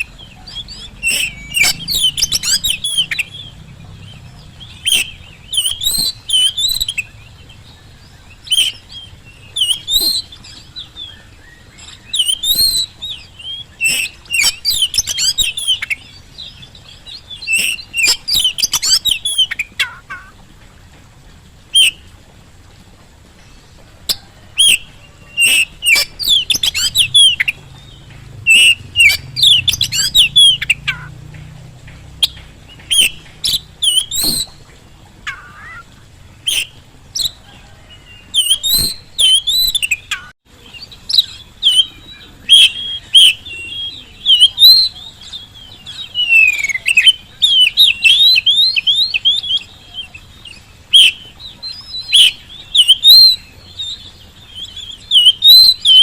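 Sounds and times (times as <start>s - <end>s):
magpie-robin singing: 0.0s - 20.4s, 21.7s - 22.1s, 23.4s - 56.0s.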